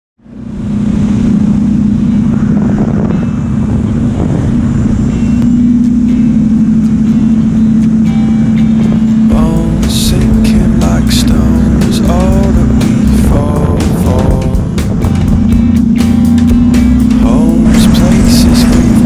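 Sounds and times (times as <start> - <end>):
motorcycle engine cruising: 0.2 - 19.0
wind rush over microphone: 0.2 - 19.0.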